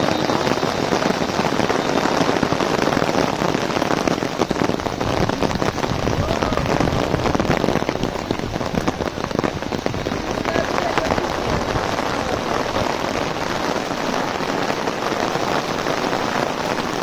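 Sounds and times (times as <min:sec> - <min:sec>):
heavy rain on an umbrella: 0:00.0 - 0:17.0.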